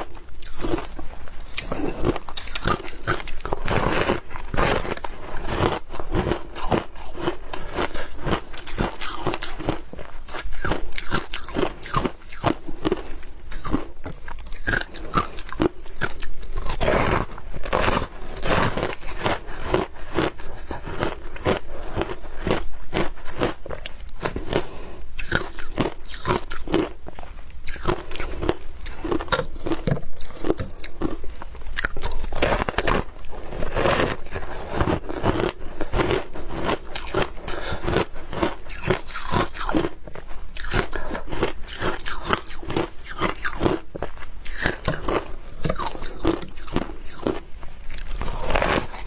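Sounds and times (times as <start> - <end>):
person crunching ice: 0.0 - 49.0.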